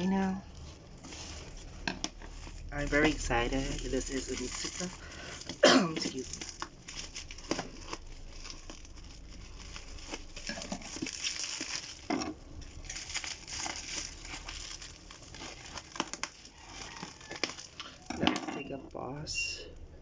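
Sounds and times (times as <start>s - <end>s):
plastic packaging crinkling: 0.0s - 19.2s.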